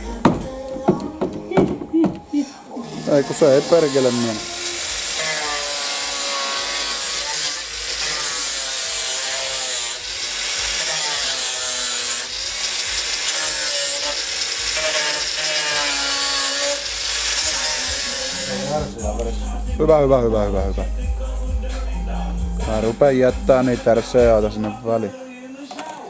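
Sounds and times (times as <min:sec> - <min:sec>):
angle grinder grinding steel: 0:02.8 - 0:25.2.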